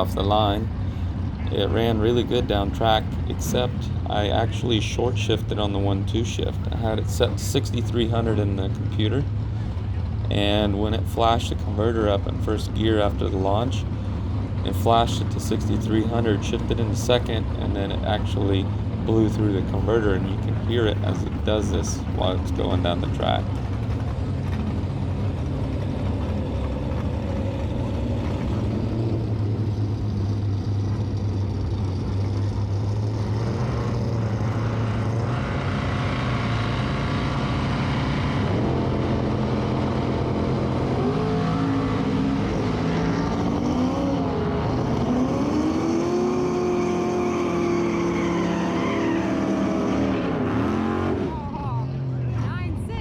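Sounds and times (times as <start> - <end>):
pickup engine running hard: 0.0 - 53.0.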